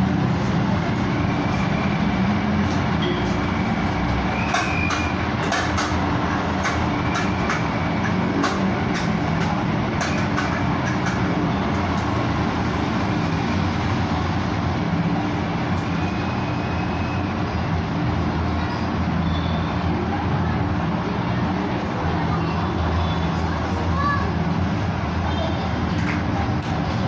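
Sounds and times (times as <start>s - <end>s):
street traffic noise: 0.0s - 27.0s
vehicle engine running low: 0.0s - 27.0s.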